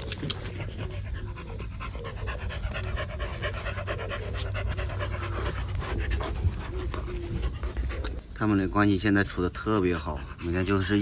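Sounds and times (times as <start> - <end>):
puppies panting: 0.0 - 11.0.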